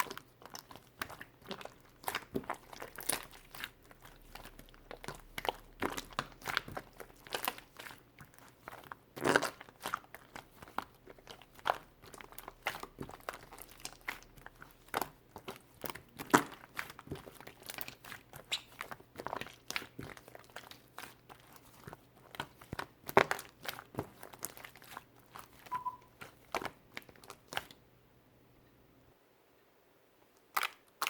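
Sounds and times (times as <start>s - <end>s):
clay squished by hand crackling: 0.0s - 27.8s.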